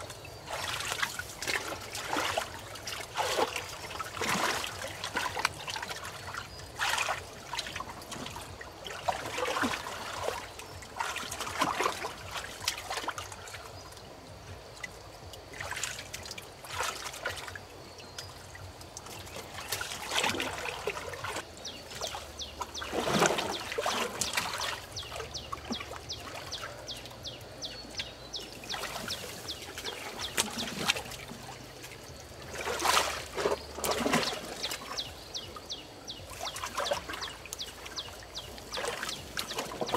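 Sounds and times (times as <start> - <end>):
shallow water splashing: 0.0 - 39.9.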